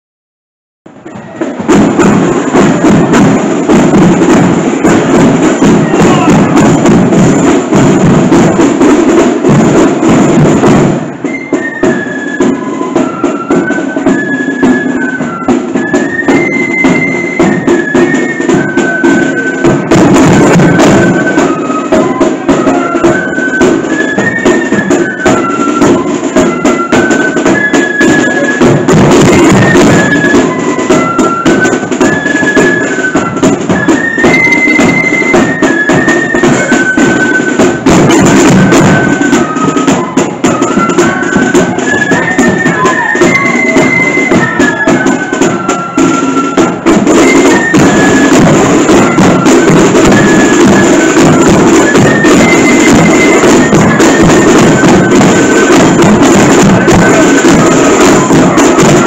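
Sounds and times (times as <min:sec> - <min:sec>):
flutes playing melody: 0:00.9 - 0:59.0
snare and bass drums beating: 0:00.9 - 0:59.0.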